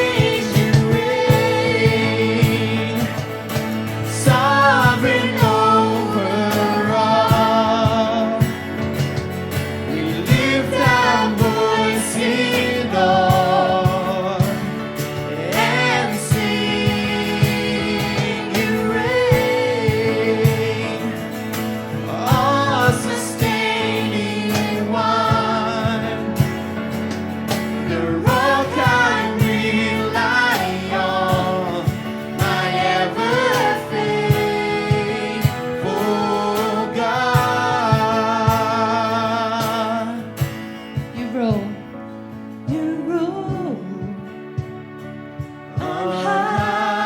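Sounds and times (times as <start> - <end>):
drum beat: 0.0 - 38.9
worship team singing: 0.0 - 41.9, 42.6 - 47.0
band accompaniment: 0.0 - 47.0.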